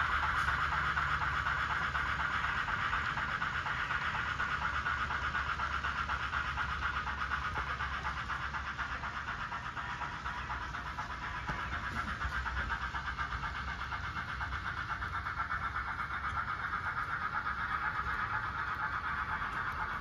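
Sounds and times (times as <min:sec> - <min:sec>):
model train motor whirring: 0:00.0 - 0:20.0
wheels rolling on track: 0:00.0 - 0:20.0.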